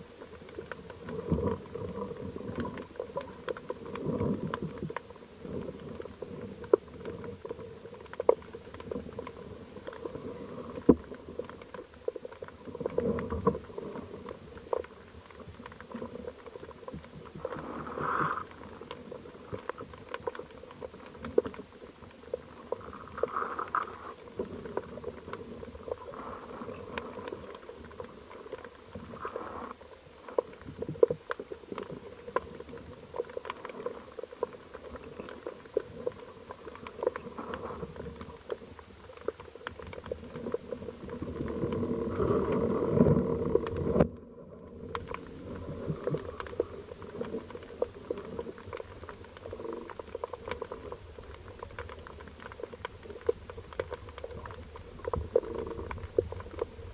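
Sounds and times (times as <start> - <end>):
faint steady hum: 0.0 - 56.9
underwater crackle of clicks: 0.0 - 56.9.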